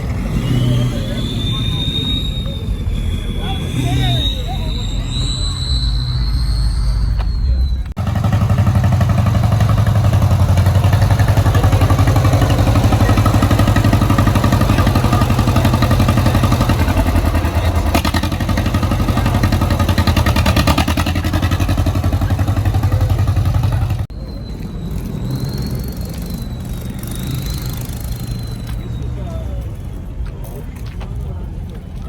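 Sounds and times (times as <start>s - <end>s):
vehicle engine through exhaust: 0.0s - 30.3s.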